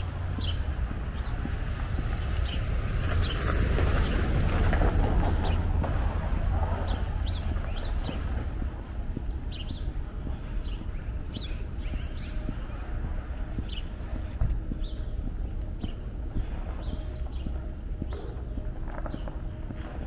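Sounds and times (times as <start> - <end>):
low rumble: 0.0 - 20.0
small birds chirping: 0.0 - 20.0.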